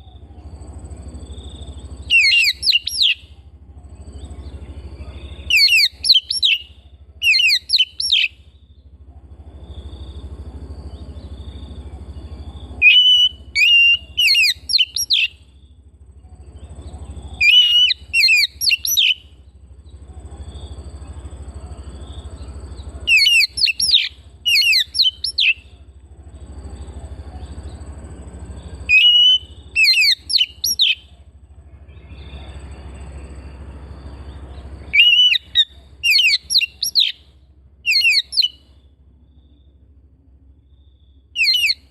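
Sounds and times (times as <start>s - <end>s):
bird singing whistled notes: 0.0s - 9.0s, 9.6s - 39.8s, 40.6s - 41.9s
steady low hum: 0.0s - 41.9s.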